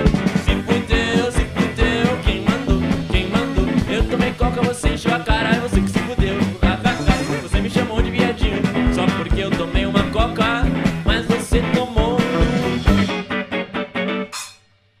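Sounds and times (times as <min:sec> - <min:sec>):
steady drum beat: 0:00.0 - 0:13.4, 0:14.3 - 0:14.6
electric guitar bending notes: 0:00.0 - 0:14.6
ska-rock band playing: 0:00.0 - 0:14.6.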